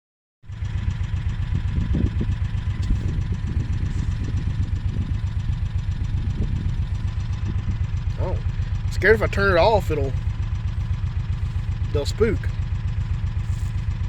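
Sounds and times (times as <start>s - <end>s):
vehicle engine idling: 0.4s - 14.0s.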